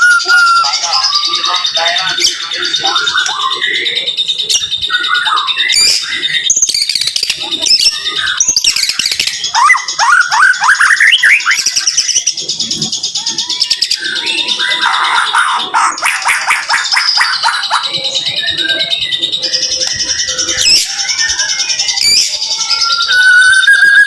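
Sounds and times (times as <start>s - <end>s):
bird singing chirps and whistles: 0.0s - 24.0s.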